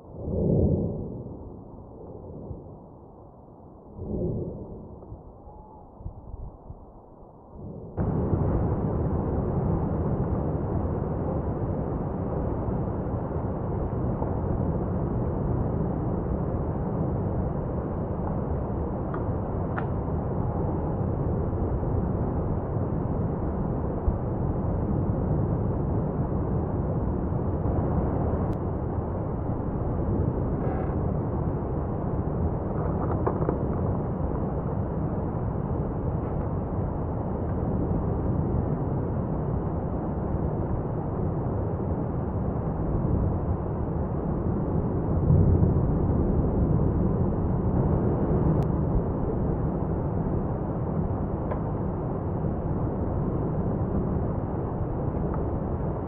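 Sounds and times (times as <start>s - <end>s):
deep volcanic rumble: 0.0s - 56.0s.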